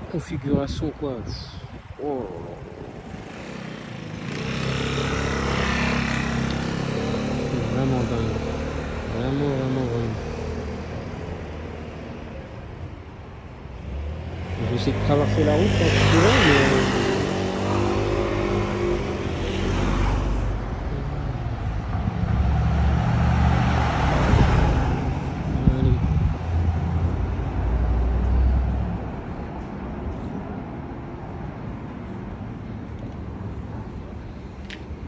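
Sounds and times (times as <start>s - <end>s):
street traffic hum: 0.0s - 35.0s.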